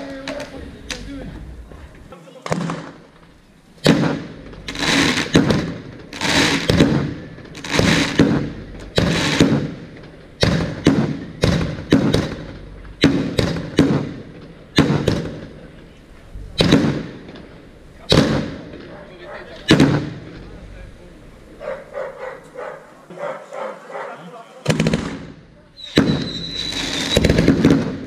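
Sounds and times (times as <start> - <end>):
fireworks bangs: 0.0 - 23.2, 24.6 - 28.0.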